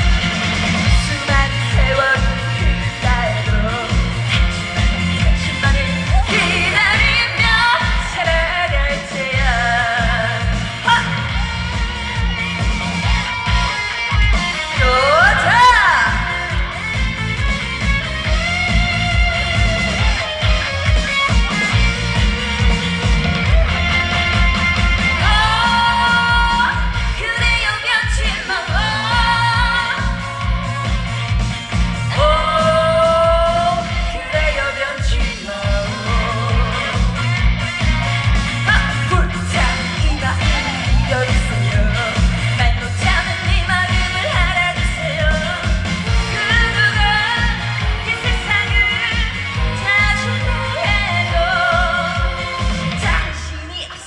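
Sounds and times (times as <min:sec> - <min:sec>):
band accompaniment with steady beat: 0:00.0 - 0:54.0
person singing with vibrato: 0:00.0 - 0:54.0.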